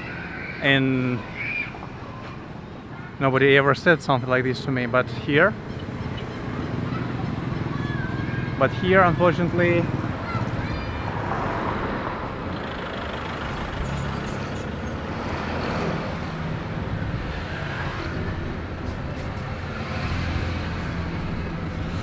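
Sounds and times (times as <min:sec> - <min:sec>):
vehicle engines passing and idling: 0:00.0 - 0:22.0.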